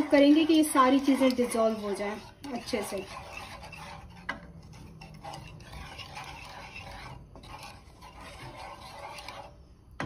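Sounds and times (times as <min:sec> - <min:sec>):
spatula swishing and scraping: 0:00.0 - 0:10.0.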